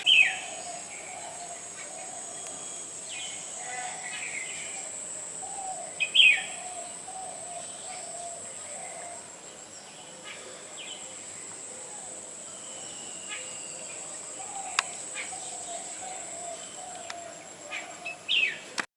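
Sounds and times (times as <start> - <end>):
high insect buzz: 0.0 - 18.8
low repeated bird notes: 0.0 - 18.8.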